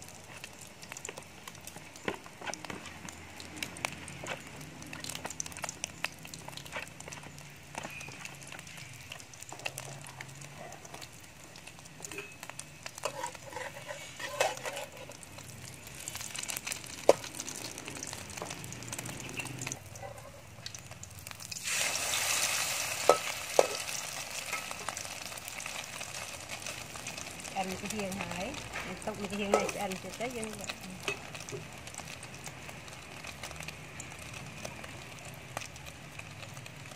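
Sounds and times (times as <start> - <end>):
omelette sizzling in oil: 0.0 - 36.9.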